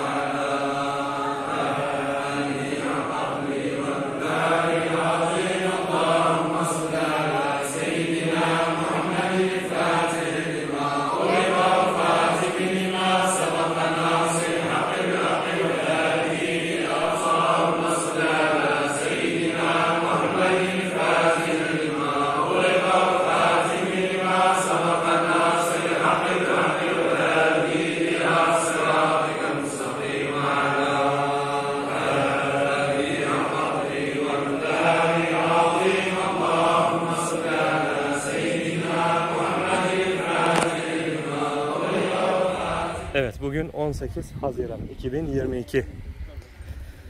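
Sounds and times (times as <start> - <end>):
men chanting in unison: 0.0 - 43.2.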